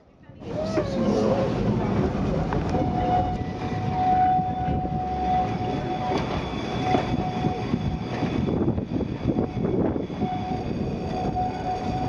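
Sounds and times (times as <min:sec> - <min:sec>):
tramcar rumbling on rails: 0:00.0 - 0:12.0
high whine: 0:01.0 - 0:12.0.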